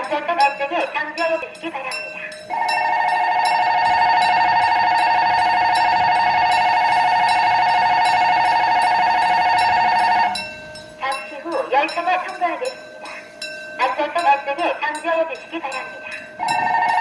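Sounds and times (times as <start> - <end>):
level crossing bell ringing: 0.0 - 17.0.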